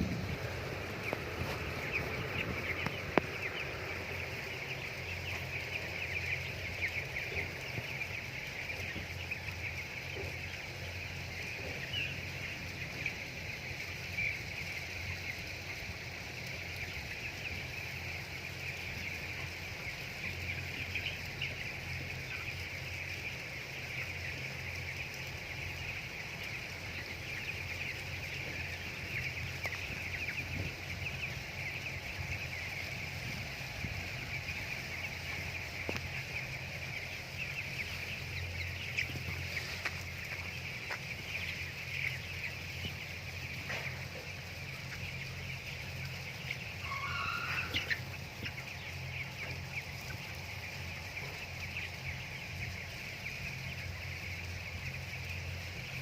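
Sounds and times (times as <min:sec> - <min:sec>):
steady low hum: 0:00.0 - 0:46.9
chickens peeping: 0:00.0 - 0:56.0.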